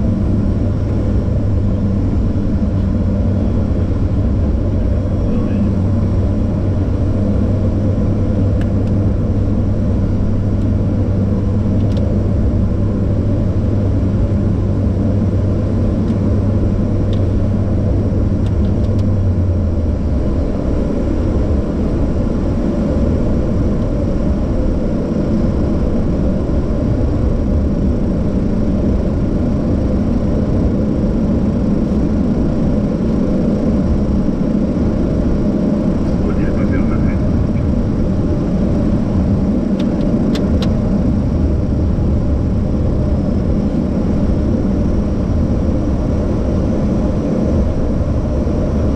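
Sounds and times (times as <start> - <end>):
low steady hum: 0.0 - 48.9
turboprop engines and propellers running: 0.0 - 48.9.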